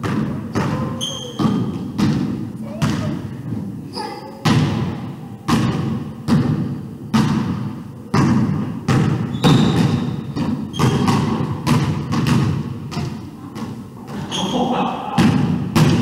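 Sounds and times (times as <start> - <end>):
basketball bouncing on wooden floor: 0.0 - 3.7, 4.4 - 14.4, 15.2 - 16.0.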